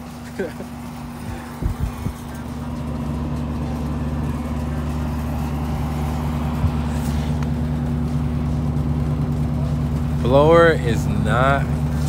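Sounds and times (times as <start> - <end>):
condenser fan humming: 0.0 - 12.0.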